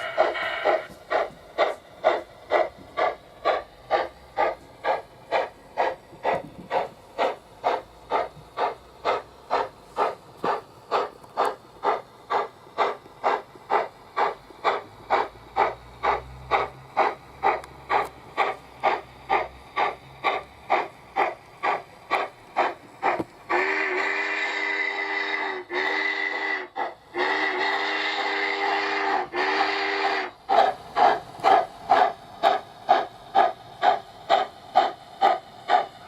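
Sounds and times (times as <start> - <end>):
model steam locomotive chuffs: 0.0 - 36.0.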